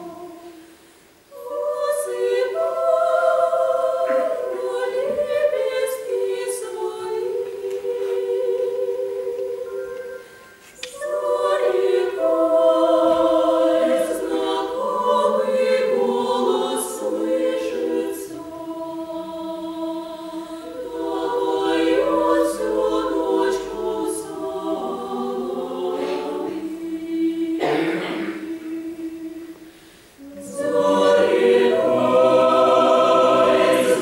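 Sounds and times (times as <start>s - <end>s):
mixed choir singing a cappella: 0.0s - 34.0s.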